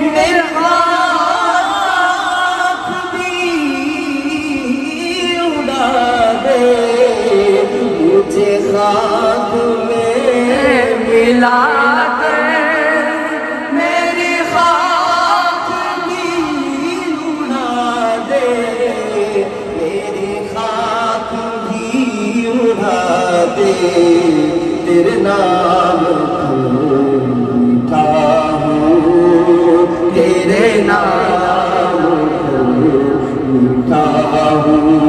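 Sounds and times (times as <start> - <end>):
man singing into a microphone: 0.0 - 35.0.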